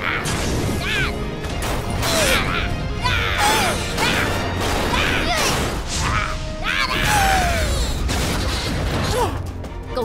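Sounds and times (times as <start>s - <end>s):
dramatic background music: 0.0s - 10.0s.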